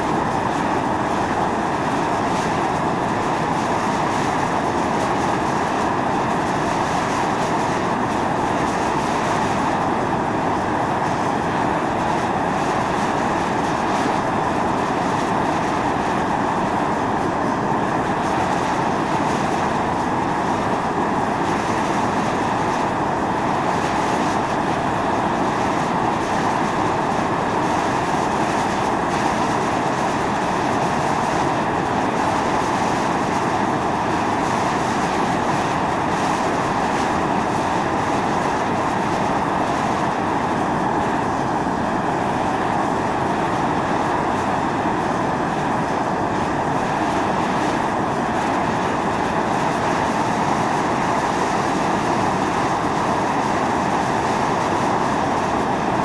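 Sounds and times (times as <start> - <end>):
fumarole venting steam hiss: 0.0 - 56.0.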